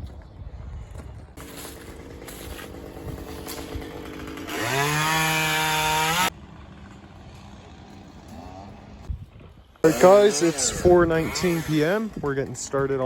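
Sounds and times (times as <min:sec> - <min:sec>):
chainsaw revving: 0:01.4 - 0:09.1, 0:09.8 - 0:13.0
faint engine noise: 0:01.4 - 0:13.0.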